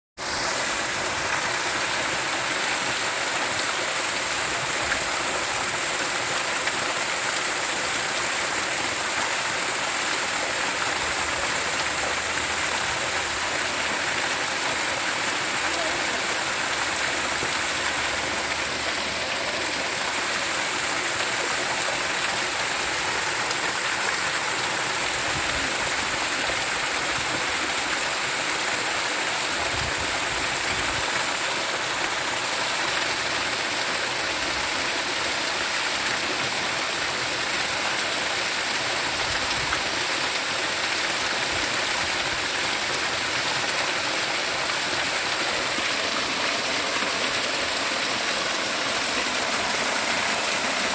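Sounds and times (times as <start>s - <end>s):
water rushing: 0.2s - 50.9s.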